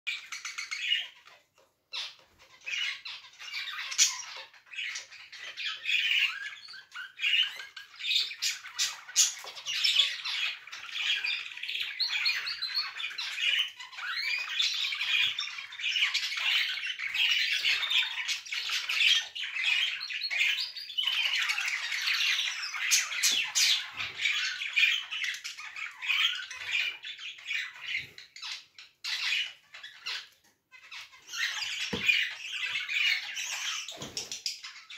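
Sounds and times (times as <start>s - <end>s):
canary singing trills and chirps: 0.1s - 34.9s.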